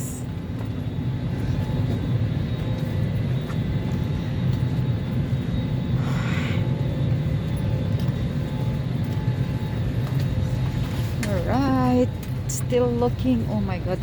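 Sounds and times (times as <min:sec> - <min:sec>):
faint steady whines: 0:00.0 - 0:14.0
ventilation drone: 0:00.0 - 0:14.0.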